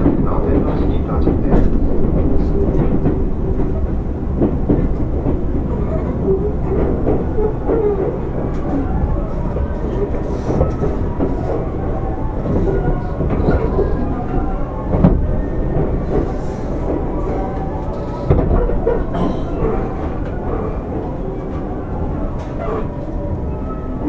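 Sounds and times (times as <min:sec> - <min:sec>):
electric train low rumble: 0:00.0 - 0:24.0.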